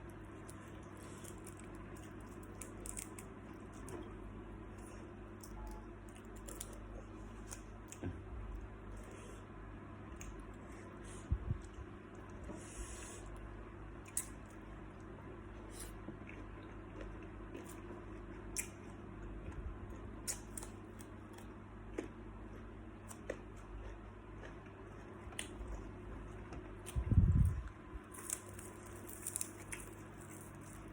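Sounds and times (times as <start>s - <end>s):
low steady hum: 0.0s - 30.9s.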